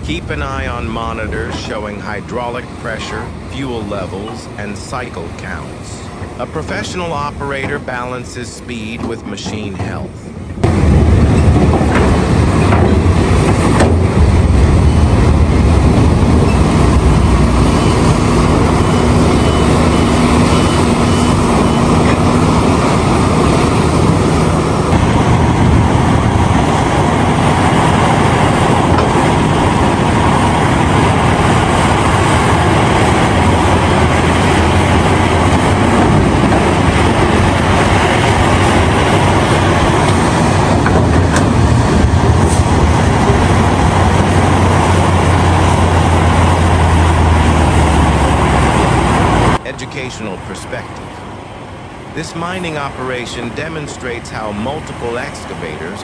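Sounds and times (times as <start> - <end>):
excavator diesel engine drone: 0.0 - 56.0.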